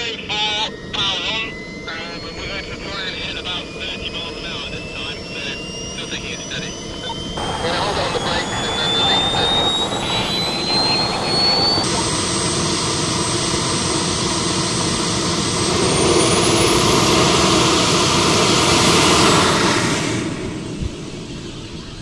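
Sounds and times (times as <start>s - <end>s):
jet turbine whine: 0.0s - 22.0s.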